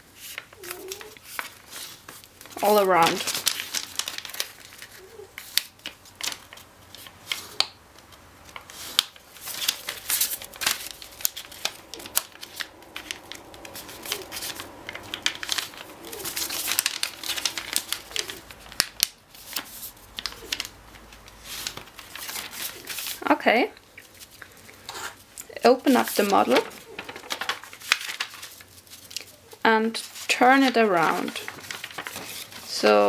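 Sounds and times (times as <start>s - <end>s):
paper being folded and creased: 0.0s - 23.3s, 24.0s - 33.0s.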